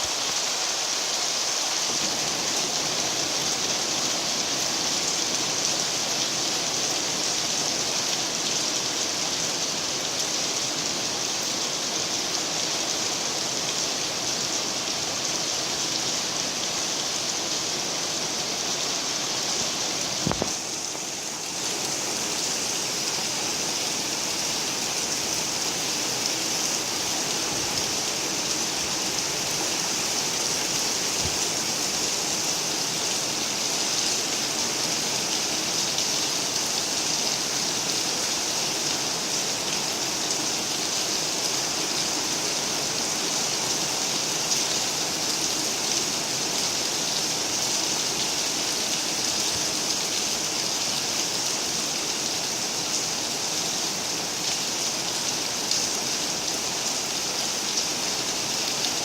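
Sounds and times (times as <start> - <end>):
rain falling and pattering: 0.0 - 59.0.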